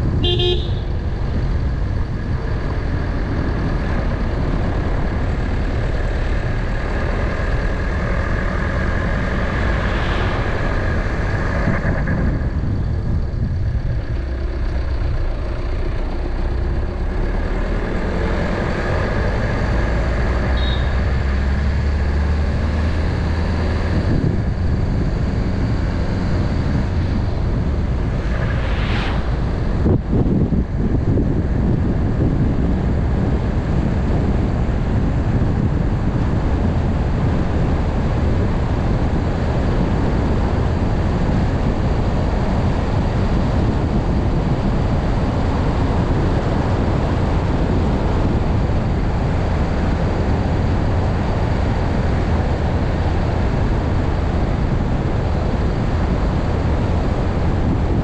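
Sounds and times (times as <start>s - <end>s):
car engine and road noise: 0.0s - 58.0s
deep rumble: 0.0s - 58.0s.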